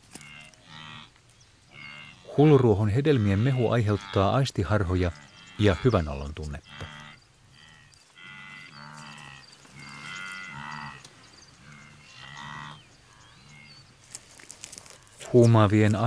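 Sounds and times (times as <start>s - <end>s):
wildebeest mooing calls: 0.1s - 14.0s.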